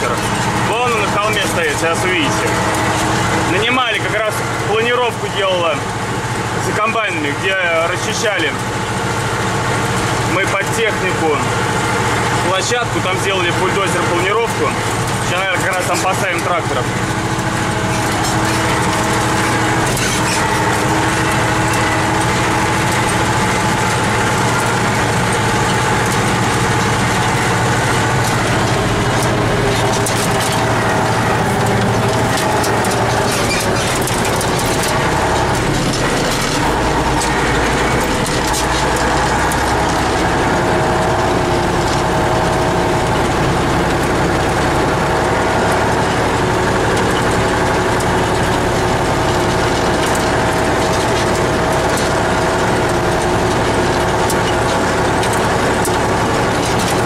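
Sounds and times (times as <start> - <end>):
vehicle engine running: 0.0 - 57.0
vehicle rattles and knocks: 0.0 - 57.0.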